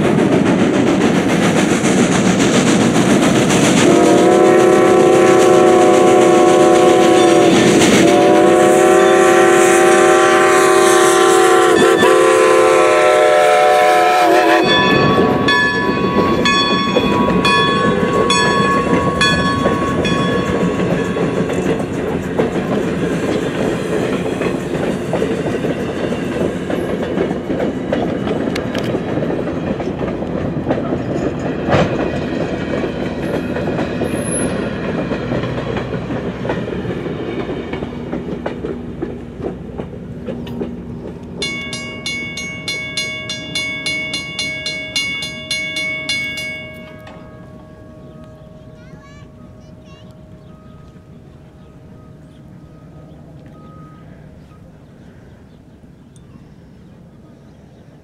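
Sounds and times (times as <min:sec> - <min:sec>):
steam locomotive rumbling: 0:00.0 - 0:58.0.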